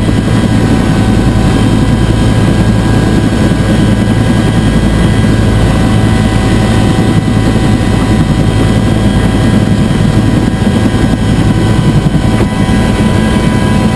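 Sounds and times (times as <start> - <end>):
constant engine whine: 0.0 - 13.9
helicopter engine and rotor noise: 0.0 - 13.9.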